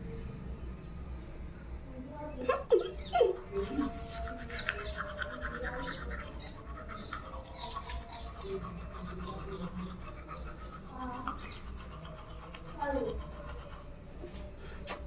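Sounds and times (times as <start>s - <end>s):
toothbrush scrubbing teeth: 2.7s - 15.0s.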